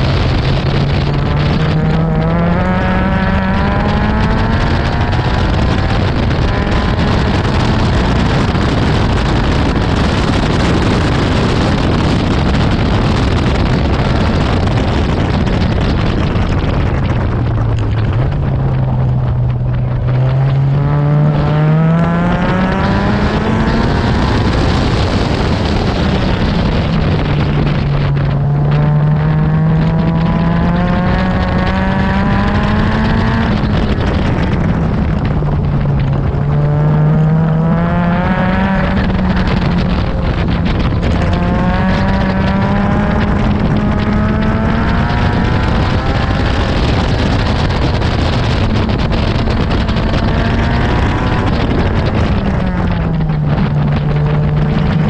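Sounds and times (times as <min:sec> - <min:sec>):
car engine accelerating hard: 0:00.0 - 0:55.0.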